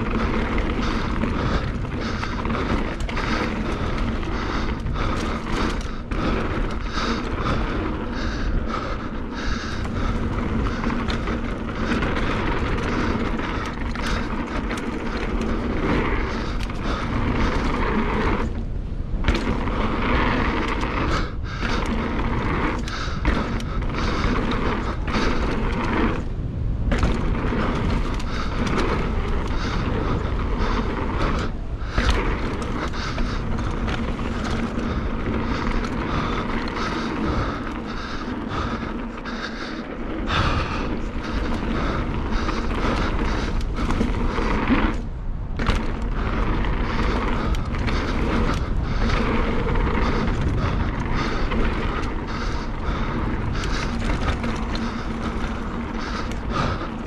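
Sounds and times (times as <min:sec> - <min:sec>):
bike rattling and knocking: 0:00.0 - 0:57.0
tyre noise: 0:00.0 - 0:57.0
wind rushing over microphone: 0:00.0 - 0:57.0.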